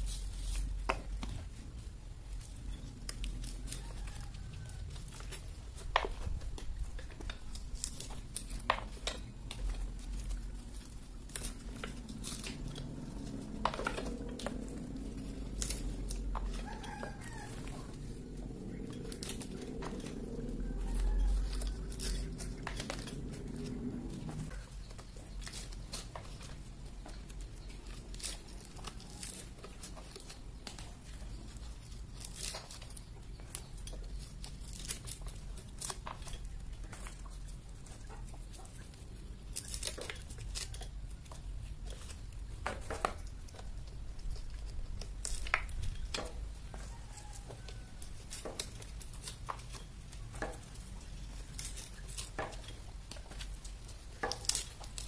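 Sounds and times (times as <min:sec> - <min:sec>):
nut husks cracking and tearing: 0:00.0 - 0:55.0.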